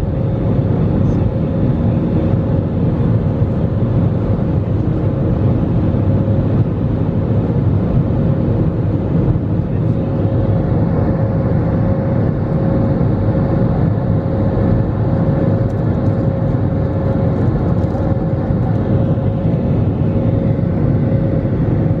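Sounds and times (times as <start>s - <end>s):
jet engine rumble: 0.0s - 22.0s
mid-pitched hum: 0.0s - 22.0s.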